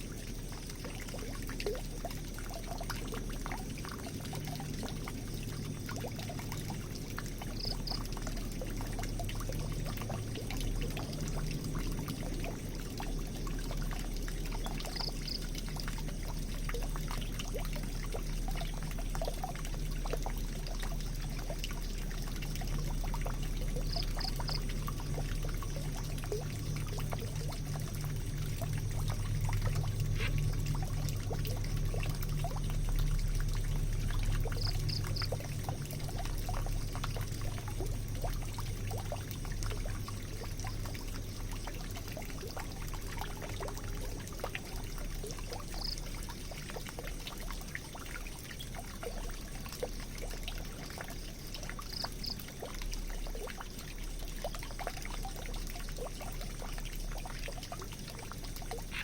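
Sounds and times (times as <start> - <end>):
water drips and splashes: 0.0 - 59.0
water trickling down a drain: 0.0 - 59.0.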